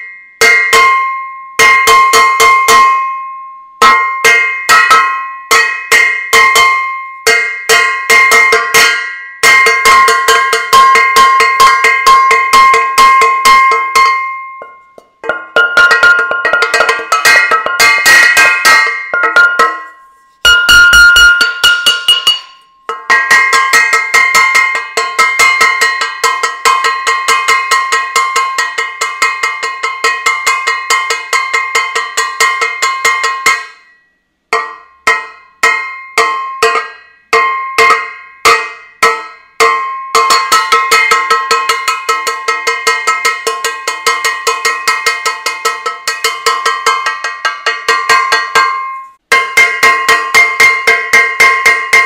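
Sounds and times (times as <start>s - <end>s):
metal saucepan being banged: 0.0s - 3.2s, 3.8s - 33.9s, 34.5s - 52.0s.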